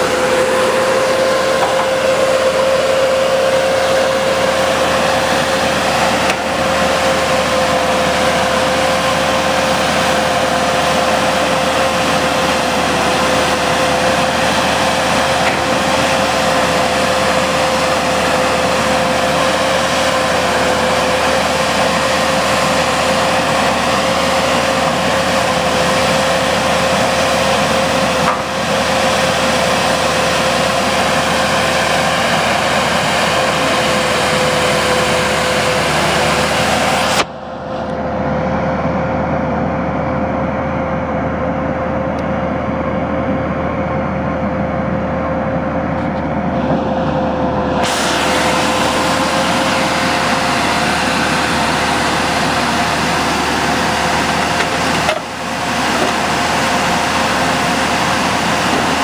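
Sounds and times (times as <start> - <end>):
crane engine running: 0.0 - 59.0
steady high whine: 0.0 - 59.0.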